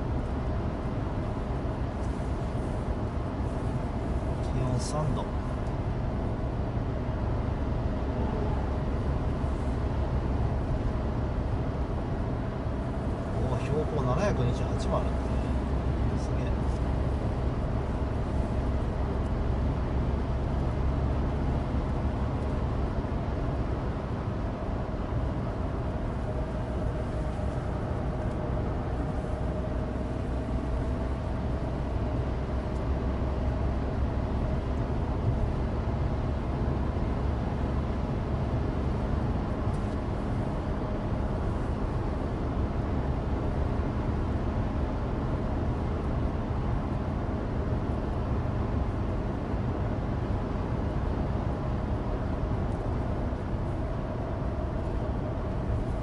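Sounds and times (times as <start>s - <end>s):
car engine running: 0.0s - 56.0s
road rumble from tyres: 0.0s - 56.0s.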